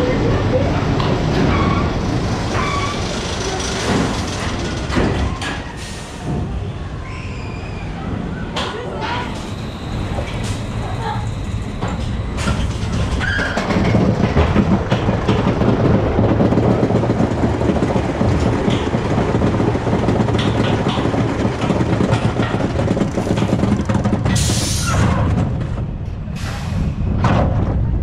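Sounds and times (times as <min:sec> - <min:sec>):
roller coaster lift chain clatter: 0:00.0 - 0:06.2, 0:08.6 - 0:26.4.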